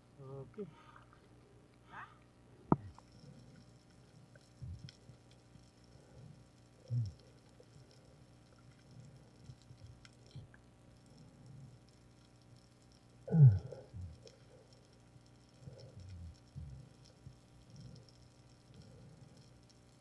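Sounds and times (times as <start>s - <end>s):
underwater clicks and crackles: 1.0s - 20.0s.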